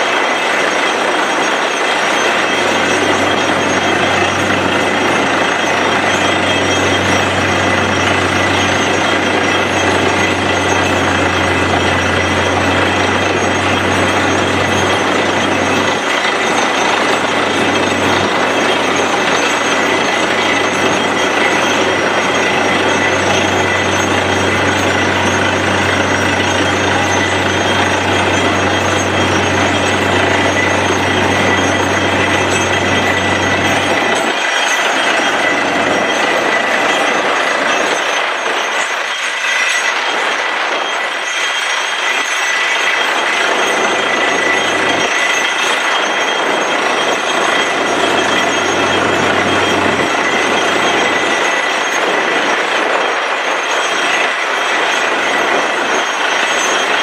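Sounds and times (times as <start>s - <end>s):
drill rattling in rock: 0.0s - 57.0s
drilling rig engine and compressor: 0.0s - 57.0s
air blowing out of bore: 1.3s - 57.0s.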